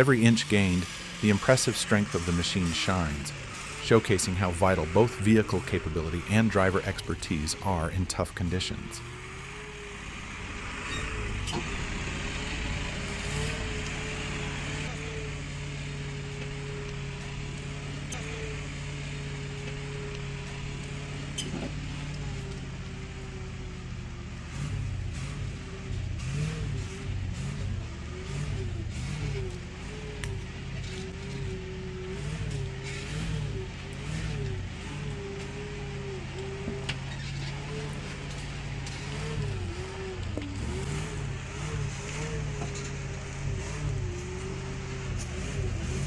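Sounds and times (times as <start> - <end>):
heavy truck engine revving: 0.0 - 46.0.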